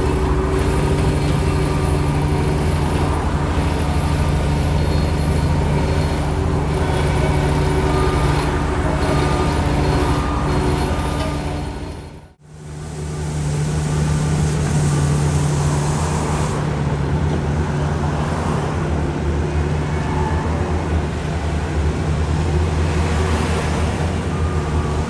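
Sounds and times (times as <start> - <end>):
road roller diesel engine: 0.0 - 25.0.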